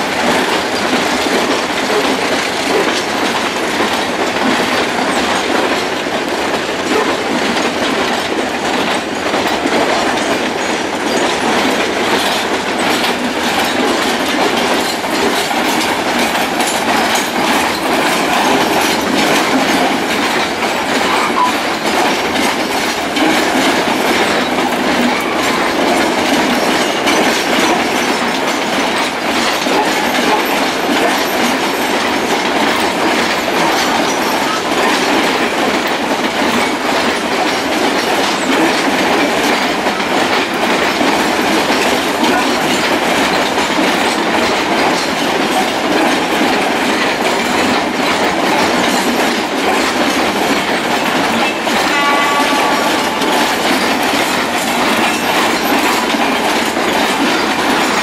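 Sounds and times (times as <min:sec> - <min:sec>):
freight wagons rolling on rails: 0:00.0 - 0:58.0
wheels clacking over rail joints: 0:00.0 - 0:58.0.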